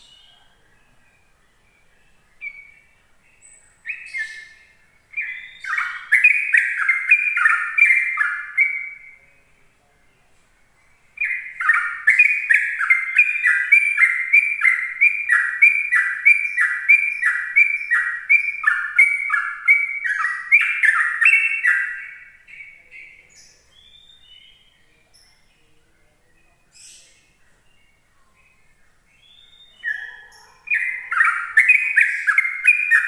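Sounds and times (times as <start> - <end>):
bird singing down-slurred notes: 0.0 - 33.0.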